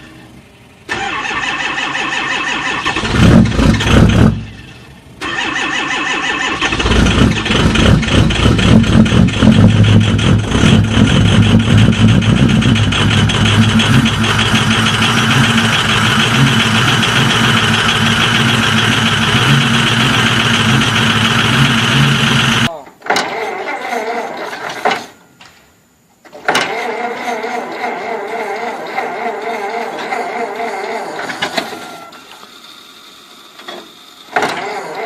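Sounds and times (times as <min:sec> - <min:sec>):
large engine cold-starting: 0:00.0 - 0:25.1, 0:26.4 - 0:35.0.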